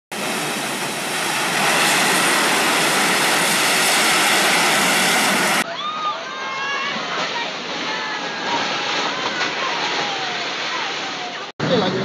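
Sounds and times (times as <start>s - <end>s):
water rushing: 0.1s - 12.0s.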